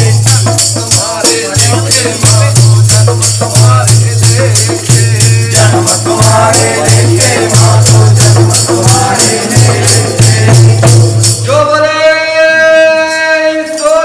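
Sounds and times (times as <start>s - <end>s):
hymn singing: 0.0s - 14.0s
jingling hand percussion: 0.0s - 14.0s.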